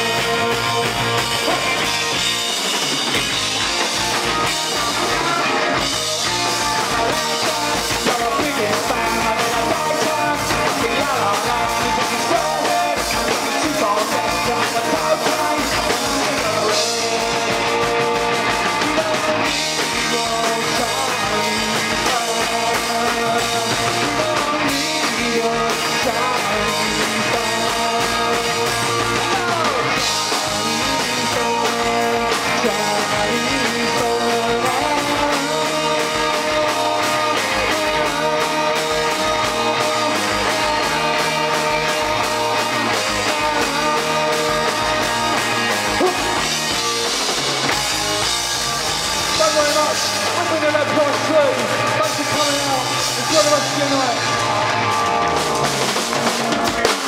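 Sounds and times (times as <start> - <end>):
man singing lead: 0.0 - 47.4, 49.1 - 57.0
drum kit: 0.0 - 57.0
electric bass: 0.0 - 57.0
electric guitar: 0.0 - 57.0.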